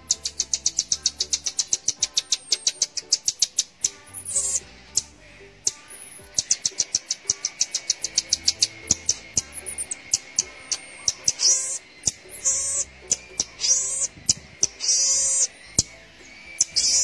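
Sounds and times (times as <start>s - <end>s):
baby marmoset chirping: 0.0s - 17.0s
background music: 0.0s - 17.0s.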